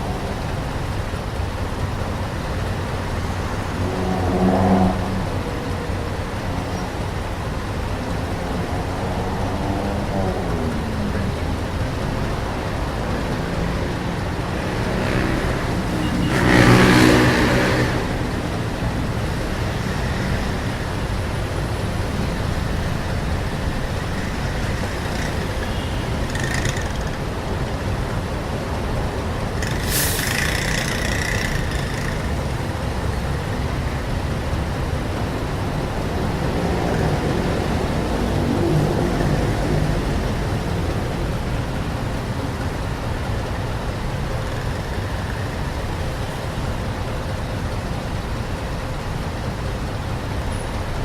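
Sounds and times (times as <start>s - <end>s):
traffic rumble: 0.0s - 51.0s
vehicle engine passing close: 0.0s - 51.0s.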